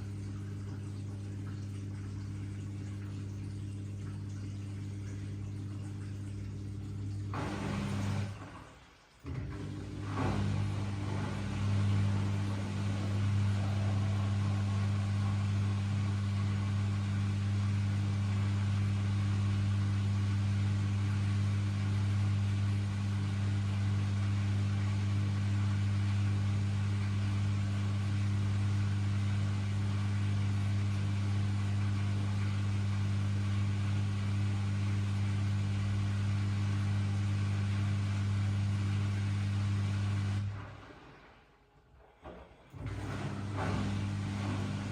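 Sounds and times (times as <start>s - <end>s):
washing machine humming: 0.0s - 44.9s.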